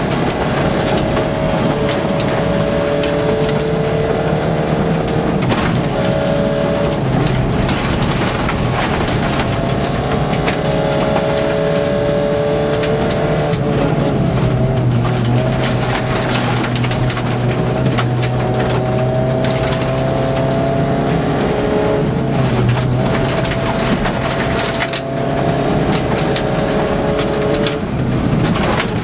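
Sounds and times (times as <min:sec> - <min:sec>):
gravel clattering against car underside: 0:00.0 - 0:29.0
rally car engine under load: 0:00.0 - 0:29.0.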